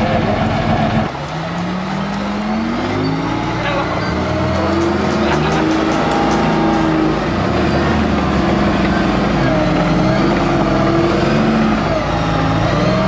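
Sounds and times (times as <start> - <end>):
tracked vehicle engine running: 0.0 - 13.0.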